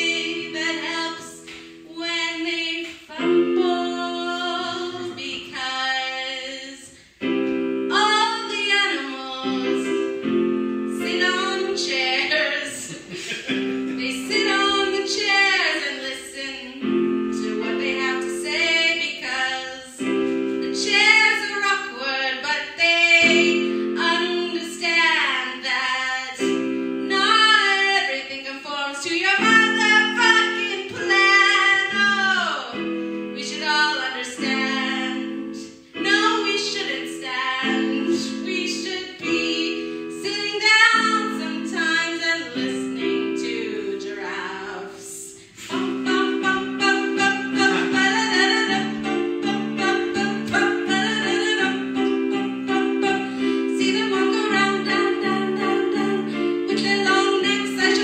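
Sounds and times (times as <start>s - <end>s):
woman singing: 0.0s - 7.0s, 7.8s - 13.1s, 13.7s - 58.0s
instrumental accompaniment: 0.0s - 25.8s, 29.1s - 58.0s.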